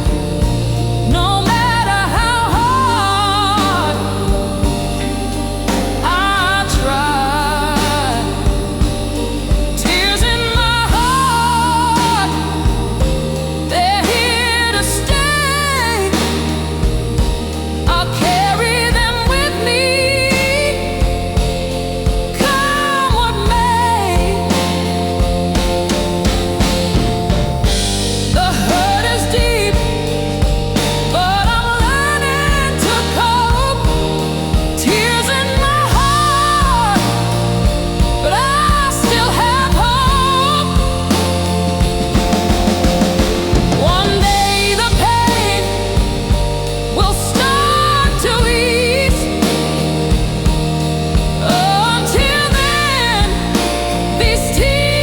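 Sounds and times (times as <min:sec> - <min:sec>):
bass line: 0:00.0 - 0:55.0
drum beat: 0:00.0 - 0:55.0
slow blues lead melody: 0:00.0 - 0:55.0.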